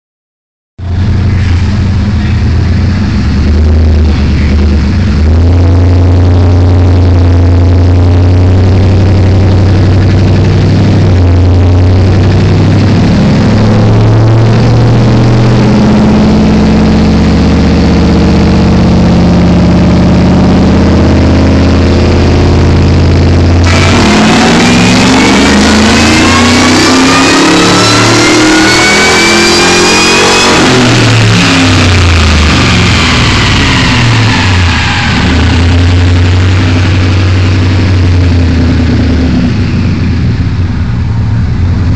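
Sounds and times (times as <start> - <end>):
supercharger whine: 0.8 - 41.9
engine revving on a dyno: 0.9 - 41.9.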